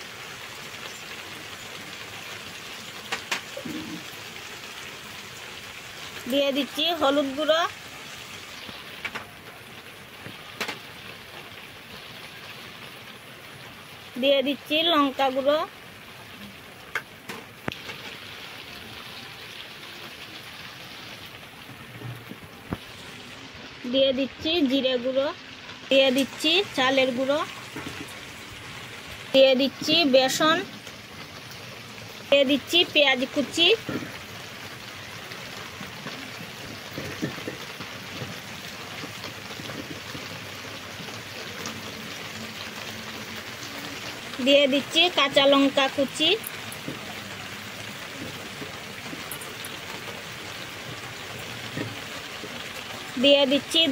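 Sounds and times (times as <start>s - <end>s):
steady rain-like hiss: 0.0s - 53.9s.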